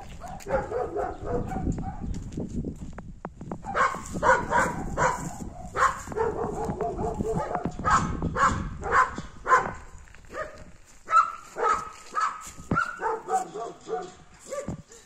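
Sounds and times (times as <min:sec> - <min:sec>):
dog barking: 0:00.0 - 0:02.1, 0:03.6 - 0:15.0.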